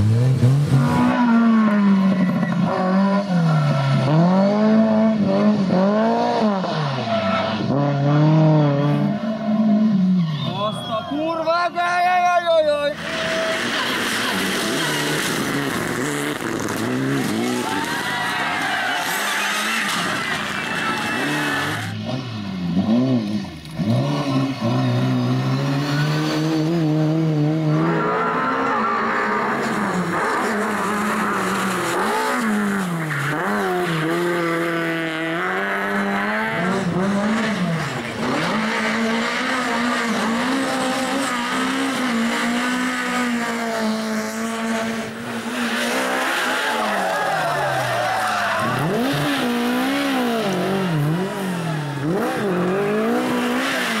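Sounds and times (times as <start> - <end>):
rally car engines revving: 0.0 - 11.1, 12.5 - 54.0.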